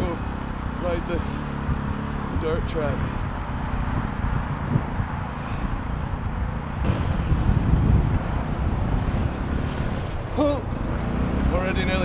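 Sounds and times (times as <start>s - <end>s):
dirt bike engine running: 0.0s - 5.0s, 5.6s - 12.0s
wind noise on microphone: 1.6s - 11.4s.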